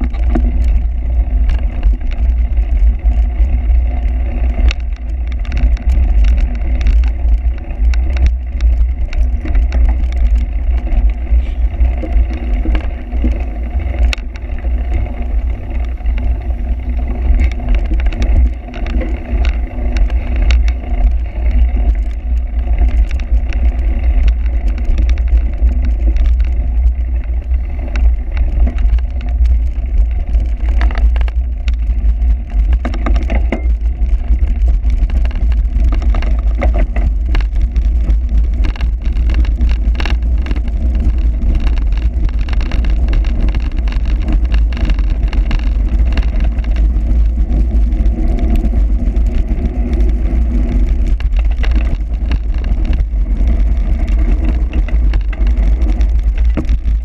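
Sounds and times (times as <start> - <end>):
small knocks and rattles: 0.0 - 57.0
wind buffeting microphone: 0.0 - 57.0.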